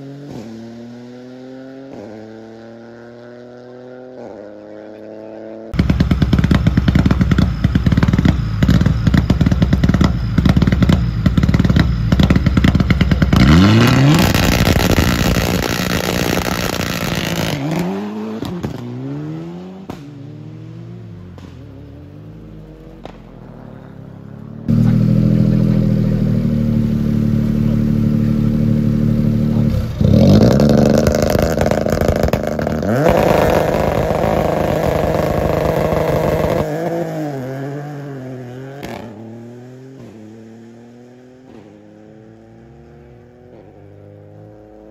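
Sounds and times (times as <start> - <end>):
rally car revving and accelerating: 0.0 - 44.9
rally car engine crackling and popping: 5.7 - 20.2, 21.2 - 40.3, 41.4 - 44.9.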